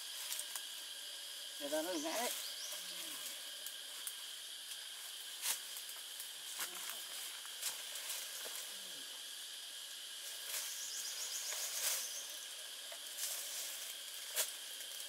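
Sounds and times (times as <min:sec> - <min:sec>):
rustles: 0:00.0 - 0:09.5, 0:10.1 - 0:15.0
insect drone: 0:00.0 - 0:15.0
rapid insect trill: 0:00.0 - 0:15.0.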